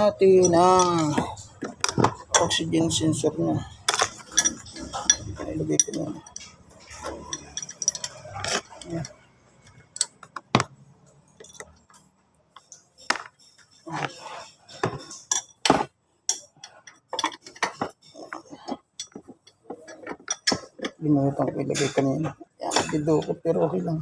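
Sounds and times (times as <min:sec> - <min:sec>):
metal tools clicking and clinking: 0:00.0 - 0:23.8.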